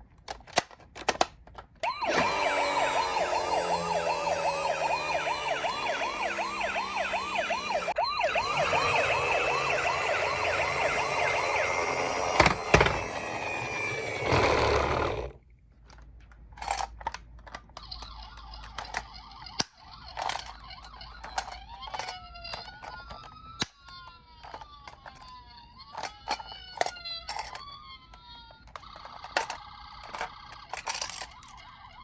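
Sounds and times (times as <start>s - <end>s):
toy ambulance sirens wailing: 1.8s - 15.4s, 17.8s - 32.0s.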